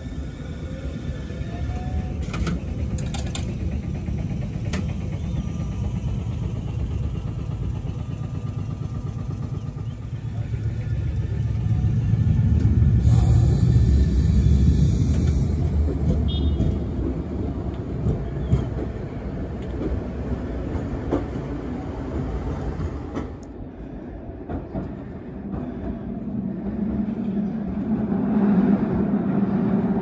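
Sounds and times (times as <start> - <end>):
tram rumbling past: 0.0 - 30.0.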